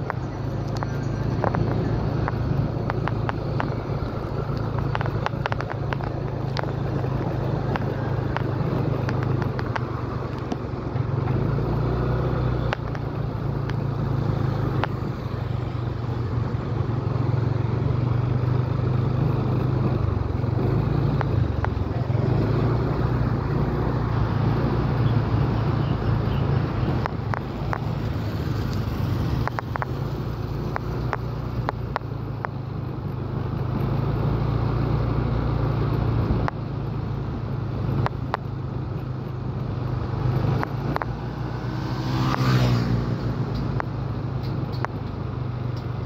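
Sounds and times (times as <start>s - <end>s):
motorcycle engine cruising: 0.0s - 46.0s
wind and road noise: 0.0s - 46.0s.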